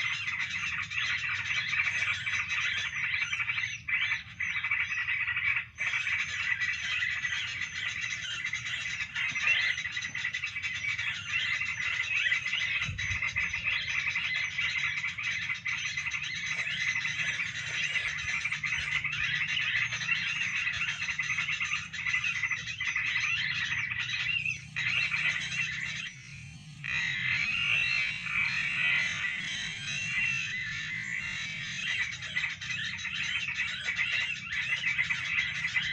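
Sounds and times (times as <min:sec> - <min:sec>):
chorus of high chirping calls: 0:00.0 - 0:35.9.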